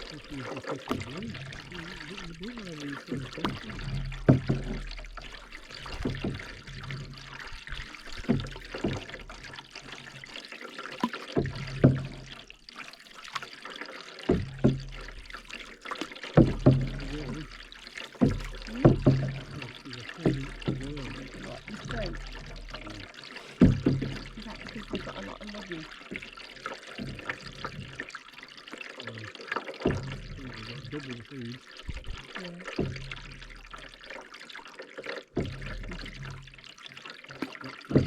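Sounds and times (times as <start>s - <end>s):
paddles splashing in water: 0.0s - 38.0s
water trickling off blades: 0.0s - 38.0s.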